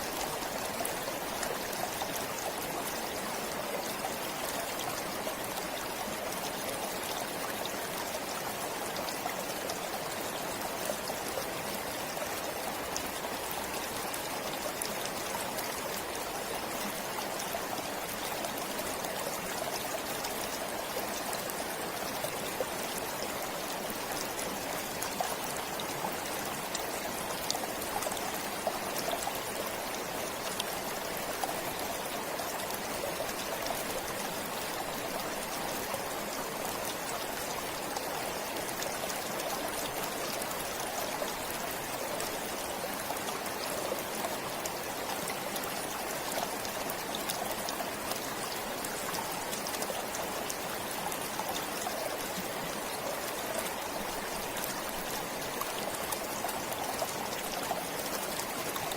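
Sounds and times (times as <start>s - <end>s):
stream water running over stones: 0.0s - 58.9s.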